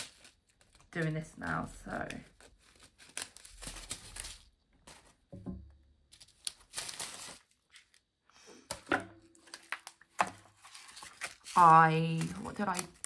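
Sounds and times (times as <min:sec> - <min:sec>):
plastic packets tearing: 0:00.0 - 0:05.1, 0:06.1 - 0:08.2, 0:09.3 - 0:13.0
plastic packets crinkling: 0:00.0 - 0:05.3, 0:05.9 - 0:08.2, 0:09.2 - 0:13.0.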